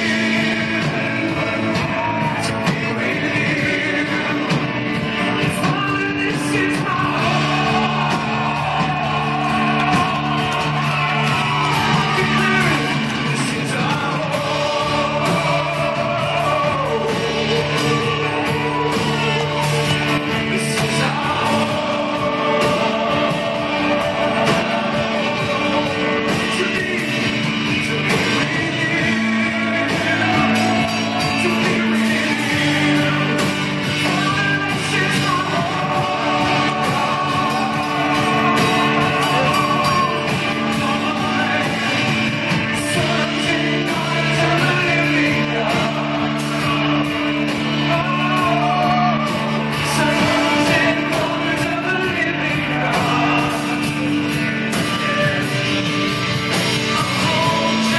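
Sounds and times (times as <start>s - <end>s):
band playing sustained chords: 0.0s - 57.9s
person singing: 0.0s - 57.9s.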